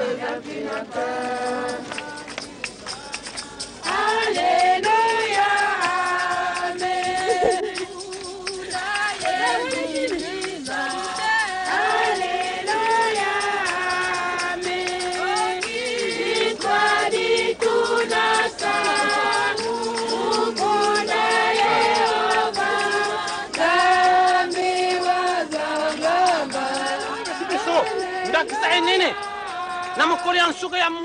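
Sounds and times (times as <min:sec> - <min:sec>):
group of voices singing: 0:00.0 - 0:30.6.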